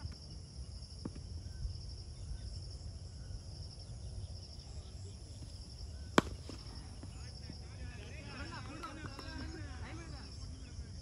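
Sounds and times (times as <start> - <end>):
insects chirping trill: 0.0 - 11.0.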